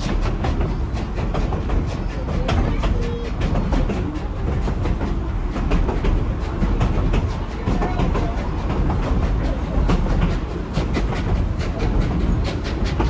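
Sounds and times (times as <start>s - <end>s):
train rumbling along track: 0.0s - 13.0s
wheels clicking on rails: 0.0s - 13.0s.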